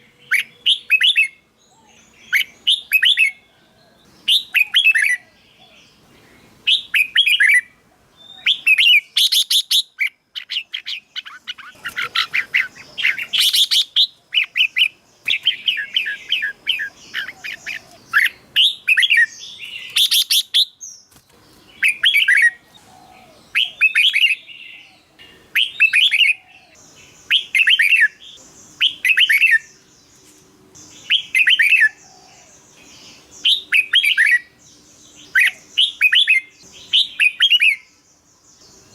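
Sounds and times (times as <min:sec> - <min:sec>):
bird whistled song: 0:00.0 - 0:21.0, 0:21.8 - 0:29.9, 0:30.8 - 0:38.0
faint high hiss: 0:00.0 - 0:38.9.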